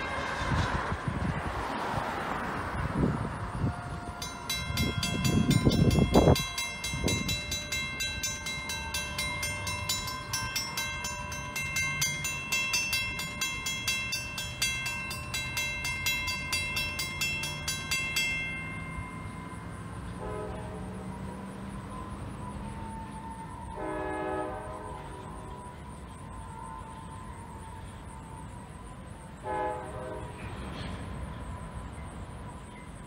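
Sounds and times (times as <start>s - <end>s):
rail cars rumbling: 0.0s - 33.0s
crossing bell dinging: 3.4s - 33.0s.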